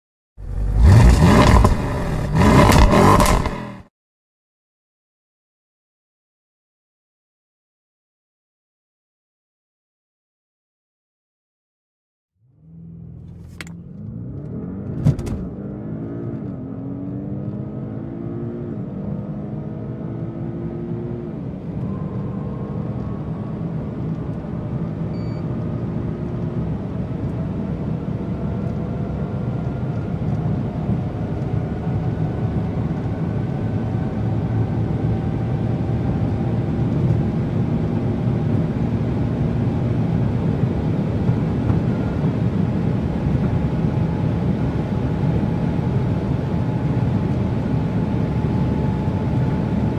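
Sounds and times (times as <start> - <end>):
car engine accelerating hard: 0.4 - 3.8, 12.6 - 49.9
road and wind noise: 0.4 - 3.8, 12.6 - 49.9.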